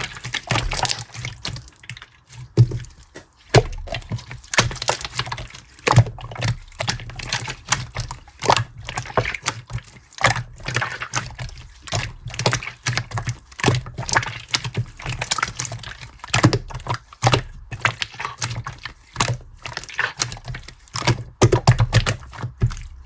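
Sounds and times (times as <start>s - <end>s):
rapid irregular clicks and taps: 0.0s - 23.0s.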